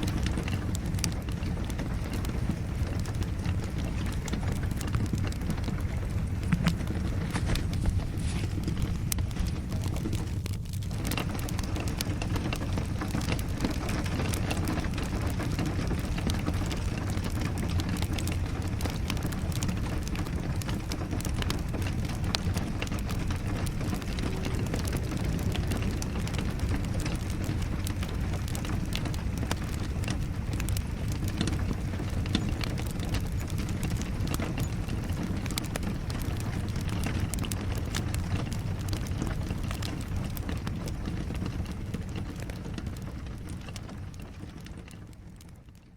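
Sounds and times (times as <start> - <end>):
steady rain: 0.0 - 45.9
wood fire crackling: 0.0 - 45.9.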